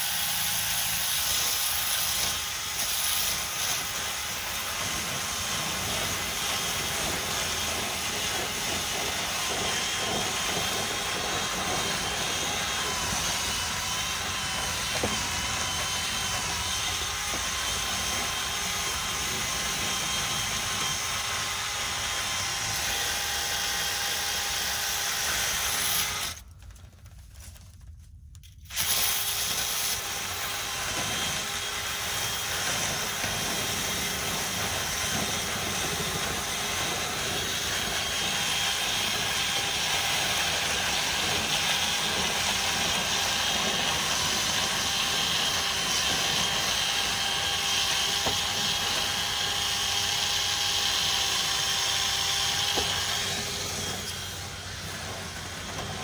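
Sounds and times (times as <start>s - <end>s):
power drill running: 0.0s - 26.4s, 28.7s - 56.0s.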